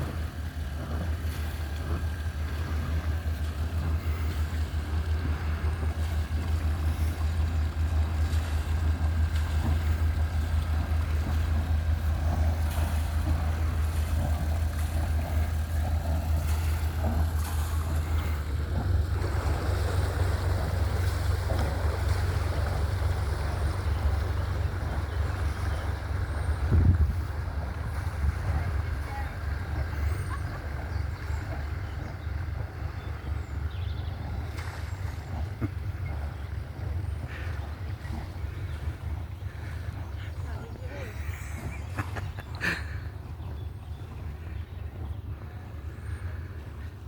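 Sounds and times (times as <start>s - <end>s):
boat engine droning: 0.0s - 47.0s
water noise: 0.0s - 47.0s
wind buffeting microphone: 0.0s - 47.0s.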